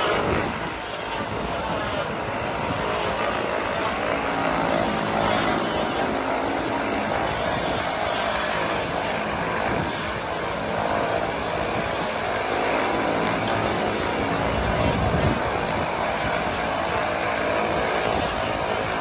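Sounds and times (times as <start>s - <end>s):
turboprop plane engines running: 0.0s - 19.0s.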